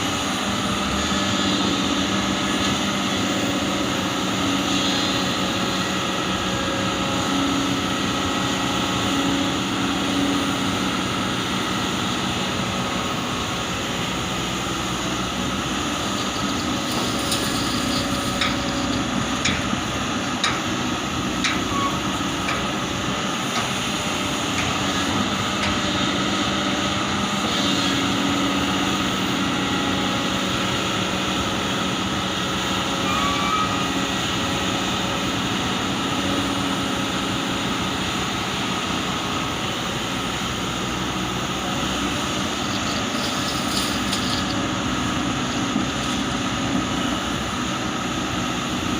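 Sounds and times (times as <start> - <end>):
diesel excavator running: 0.0 - 48.9.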